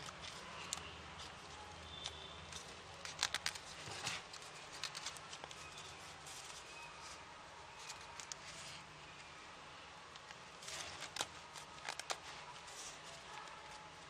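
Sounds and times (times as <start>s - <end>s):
paper crackling being folded: 0.0s - 9.3s, 10.1s - 14.0s.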